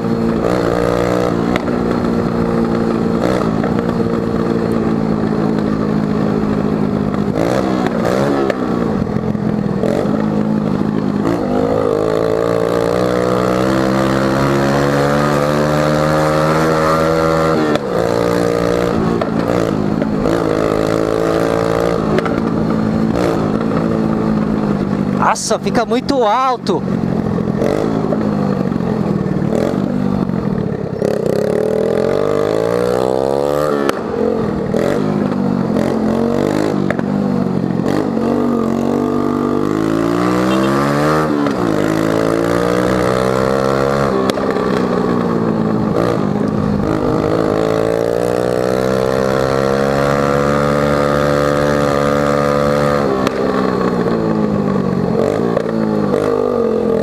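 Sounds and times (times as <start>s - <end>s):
loud scooter engine revving: 0.0s - 57.0s.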